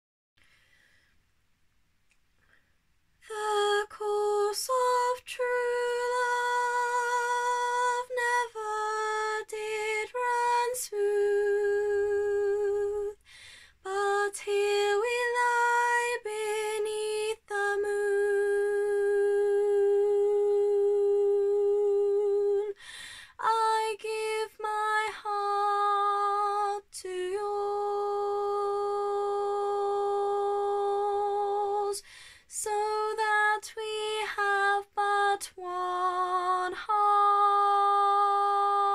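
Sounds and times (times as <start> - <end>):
young woman singing: 3.2 - 38.9.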